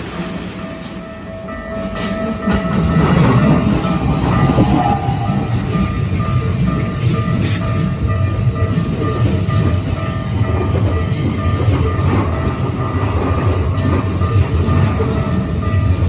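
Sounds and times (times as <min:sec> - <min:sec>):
crossing warning bell ringing: 0:00.0 - 0:16.0
train wheels rumbling on rails: 0:00.0 - 0:16.0
wheel clacks: 0:00.0 - 0:16.0.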